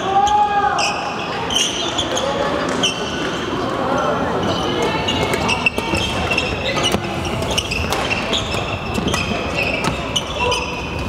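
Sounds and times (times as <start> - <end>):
busy sports hall din: 0.0 - 11.0
shoes squeaking on floor: 0.2 - 11.0.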